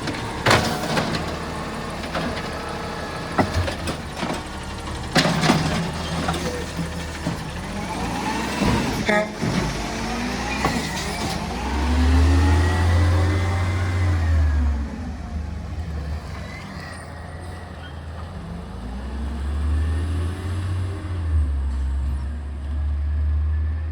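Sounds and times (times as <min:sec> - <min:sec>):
vehicle engines rumbling: 0:00.0 - 0:23.9.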